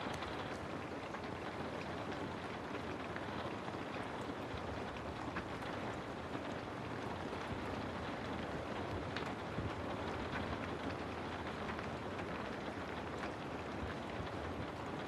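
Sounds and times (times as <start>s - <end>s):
faint raindrop ticks: 0.0s - 15.0s.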